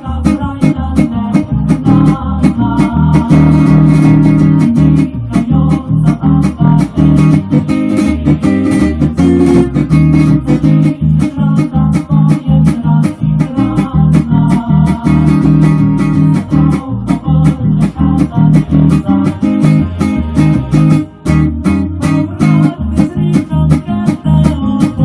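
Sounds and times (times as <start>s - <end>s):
bass line: 0.0s - 25.0s
electric guitar strumming chords: 0.0s - 25.0s.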